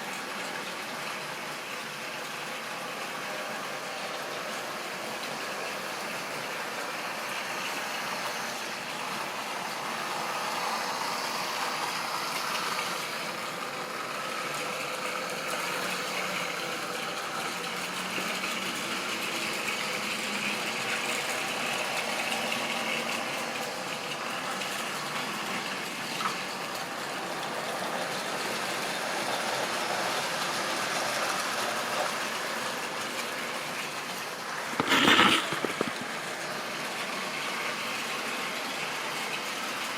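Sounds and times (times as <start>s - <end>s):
model train motor whirring: 1.3s - 39.9s
wheels rolling on rails: 2.4s - 39.9s.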